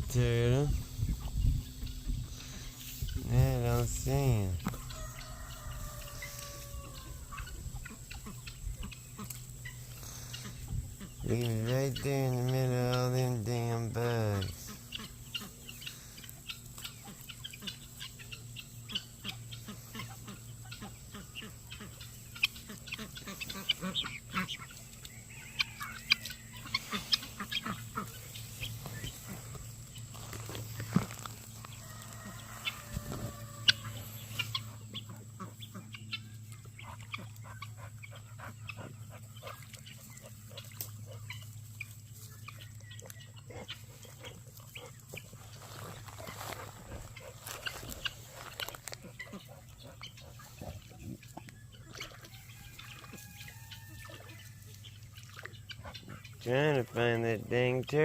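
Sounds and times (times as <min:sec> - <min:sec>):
chickens clucking: 0:00.0 - 0:58.0
steady low hum: 0:00.0 - 0:58.0.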